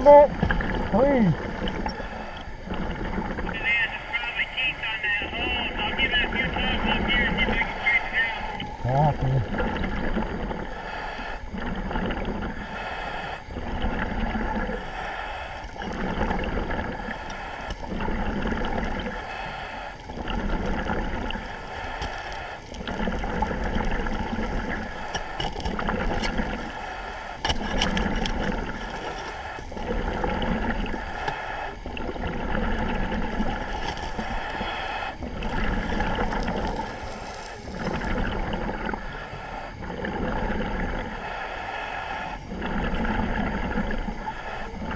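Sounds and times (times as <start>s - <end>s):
diver breathing over radio: 0.0s - 44.9s
rush of air and water: 0.0s - 44.9s.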